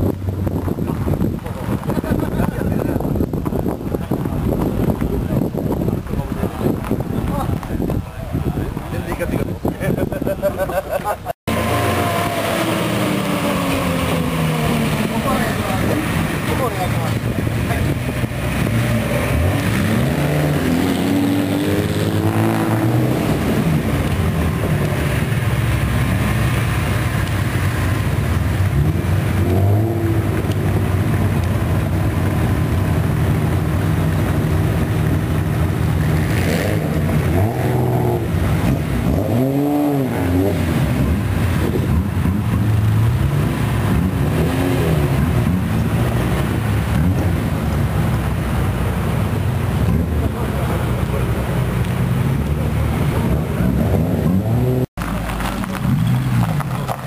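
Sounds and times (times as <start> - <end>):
loud car exhausts revving: 9.9 - 57.0.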